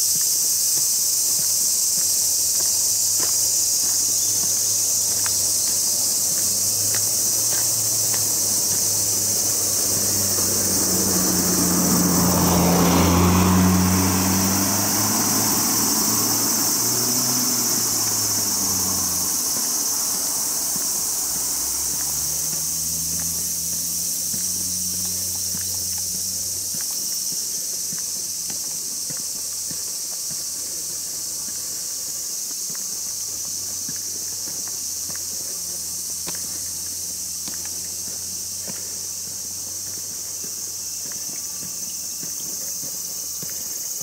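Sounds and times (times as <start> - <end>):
insects chorus: 0.0 - 44.0
car passing by: 0.2 - 44.0.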